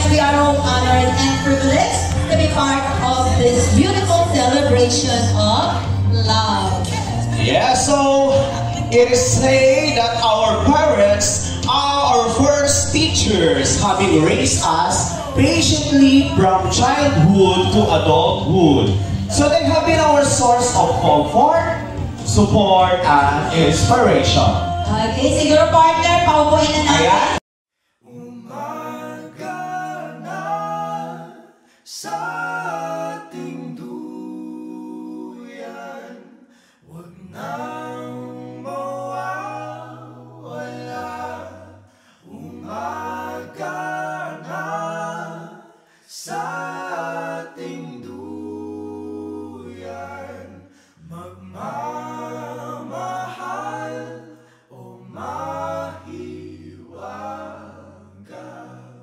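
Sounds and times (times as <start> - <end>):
voices singing in harmony: 0.0 - 27.4, 28.0 - 59.0.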